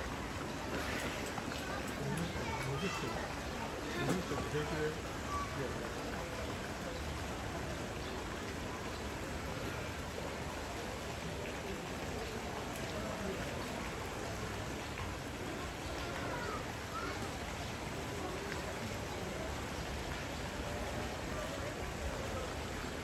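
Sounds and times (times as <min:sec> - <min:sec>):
faint voices: 0:00.0 - 0:23.0
rushing water in a pool: 0:00.0 - 0:23.0.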